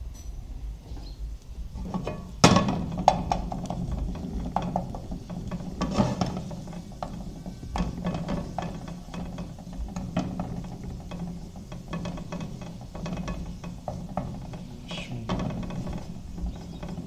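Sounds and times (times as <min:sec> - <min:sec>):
wooden spatula scraping frying pan: 0:01.7 - 0:17.0.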